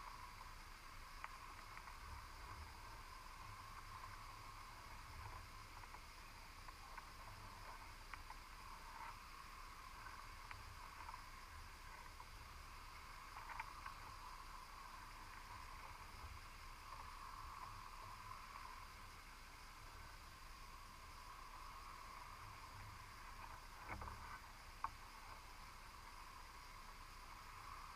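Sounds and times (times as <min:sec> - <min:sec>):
faint ticks: 0:00.0 - 0:27.9
underwater low hum and hiss: 0:00.0 - 0:27.9.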